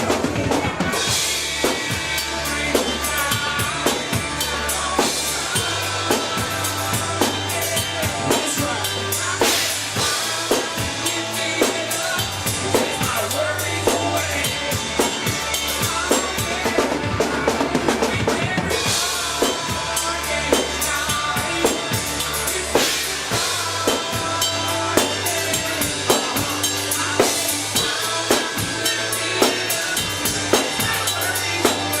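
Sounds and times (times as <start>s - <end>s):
drum kit steady beat: 0.0s - 32.0s
live band playing: 0.0s - 32.0s.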